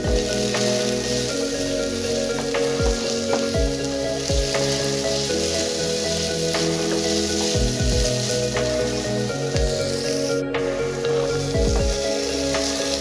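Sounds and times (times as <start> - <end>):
background music: 0.0 - 13.0
vegetables sizzling in oil: 0.0 - 13.0.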